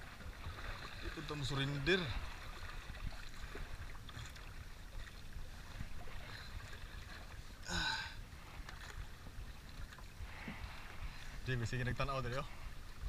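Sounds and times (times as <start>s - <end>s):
sea noise: 0.0s - 13.0s
wind: 0.0s - 13.0s.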